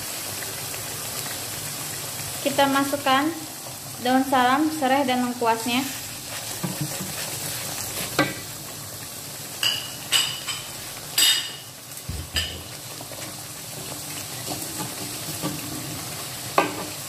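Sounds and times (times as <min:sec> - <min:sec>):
spice paste sizzling in a wok: 0:00.0 - 0:17.0.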